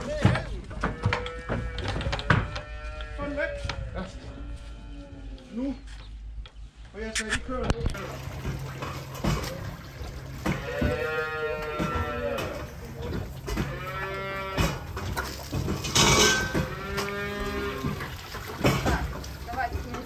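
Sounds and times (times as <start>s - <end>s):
calves bawling: 0.2s - 6.4s, 7.1s - 19.8s.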